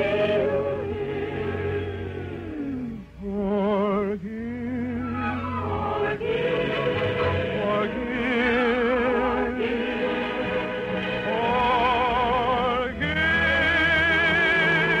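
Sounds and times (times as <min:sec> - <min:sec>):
orchestra: 0:00.0 - 0:15.0
voices singing with vibrato: 0:00.0 - 0:15.0.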